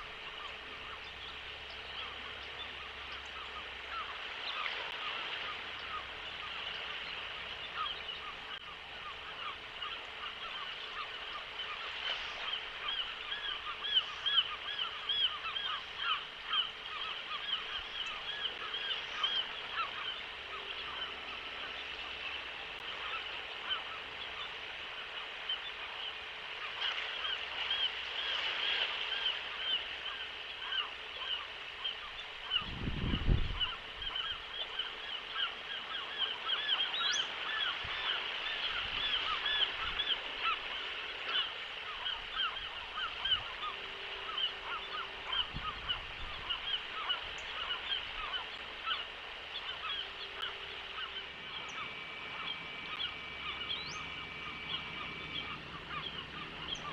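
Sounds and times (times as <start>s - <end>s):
gulls calling: 0.0s - 56.9s.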